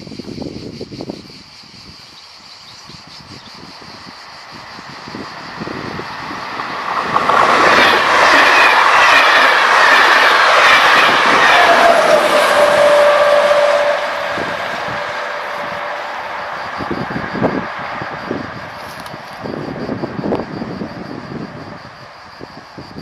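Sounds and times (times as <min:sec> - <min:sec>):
train passing at speed: 0:00.9 - 0:23.0
wheels rushing on rails: 0:01.0 - 0:23.0
locomotive whine falling in pitch: 0:04.5 - 0:23.0.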